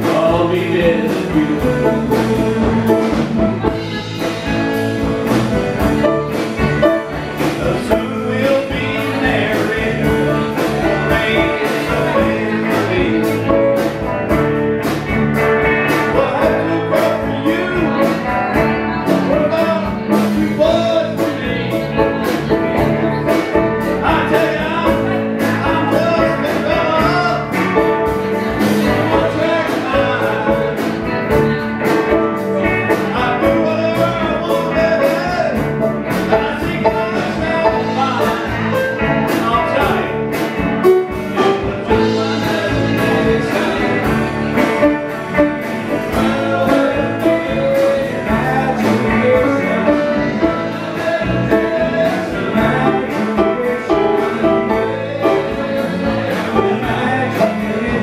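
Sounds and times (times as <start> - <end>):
person singing lead vocal: 0.0 - 14.6, 15.6 - 58.0
live rock band playing: 0.0 - 58.0.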